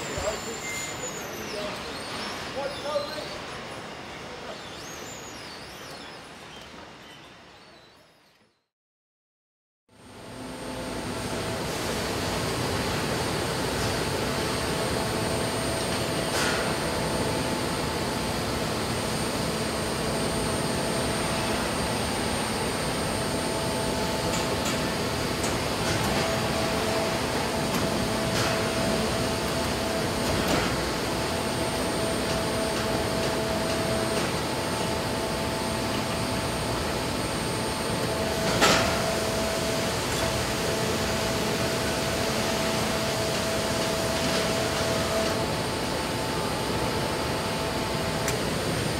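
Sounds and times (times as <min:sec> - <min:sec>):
foundry machinery hum and hiss: 0:00.0 - 0:08.5, 0:10.0 - 0:48.9.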